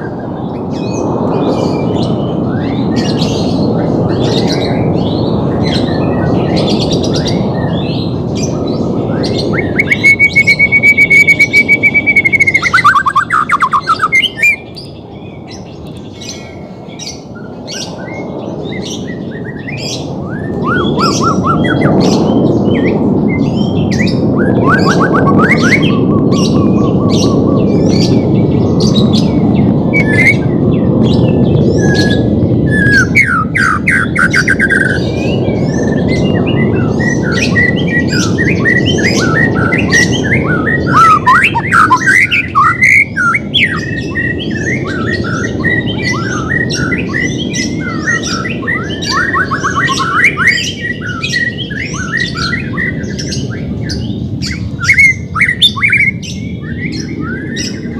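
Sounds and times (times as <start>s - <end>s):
bird song with whistles and trills: 0.0s - 57.9s.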